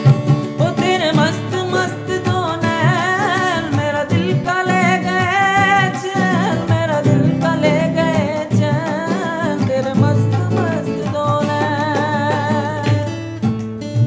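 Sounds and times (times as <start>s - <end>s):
strummed acoustic guitar: 0.0s - 14.0s
man singing with vibrato: 0.5s - 13.4s.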